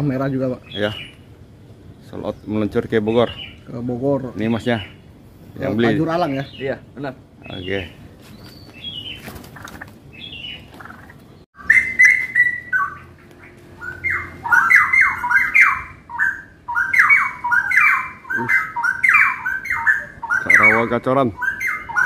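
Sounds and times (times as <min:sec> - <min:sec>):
bird singing: 0:00.0 - 0:22.0
faint bird chirping: 0:00.0 - 0:22.0.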